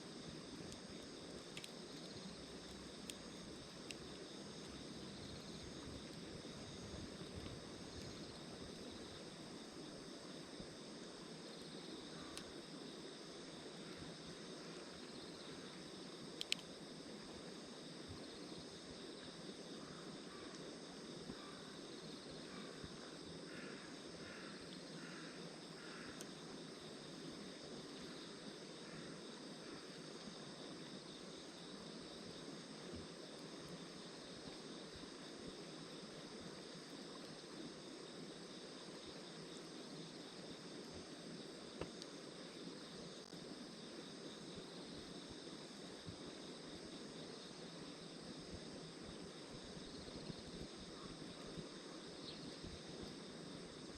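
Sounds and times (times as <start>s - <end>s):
small fire hissing and crackling: 0.0s - 53.9s.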